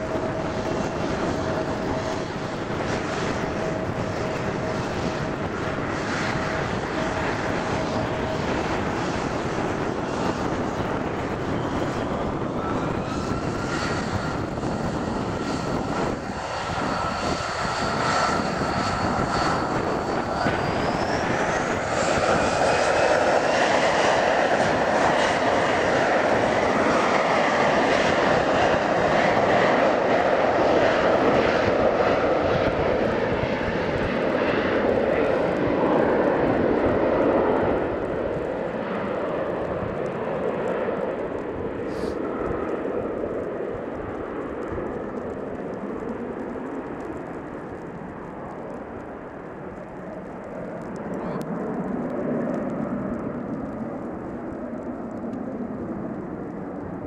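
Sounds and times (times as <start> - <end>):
jet engines roaring on take-off: 0.0 - 57.0.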